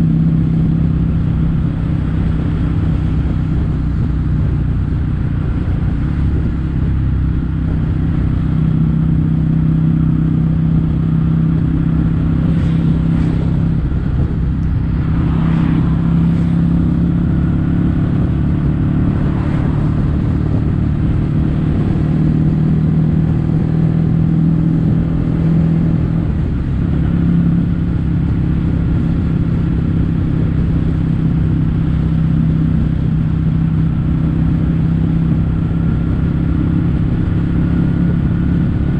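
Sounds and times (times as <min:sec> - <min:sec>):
motorcycle engine exhaust note: 0:00.0 - 0:38.9.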